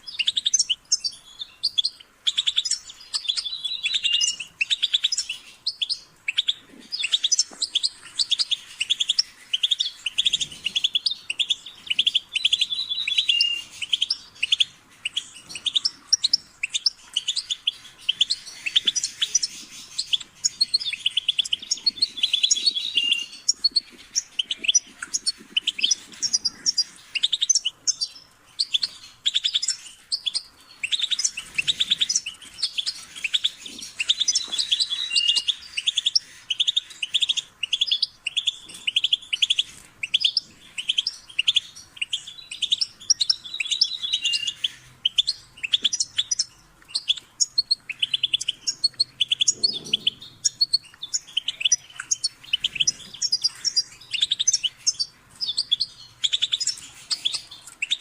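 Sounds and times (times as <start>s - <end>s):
finch twittering and trilling: 0.0s - 58.0s.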